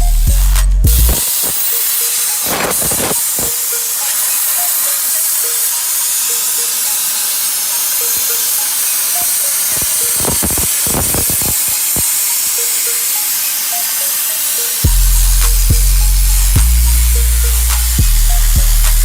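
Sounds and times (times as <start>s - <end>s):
plasma torch hissing: 1.0s - 19.0s.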